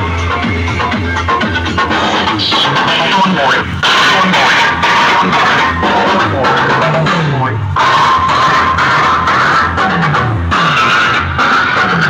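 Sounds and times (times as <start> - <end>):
loud dance music: 0.0 - 12.0.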